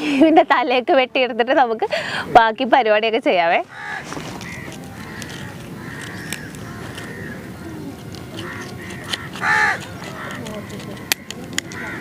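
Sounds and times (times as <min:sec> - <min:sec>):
steady low background noise: 0:00.0 - 0:12.0.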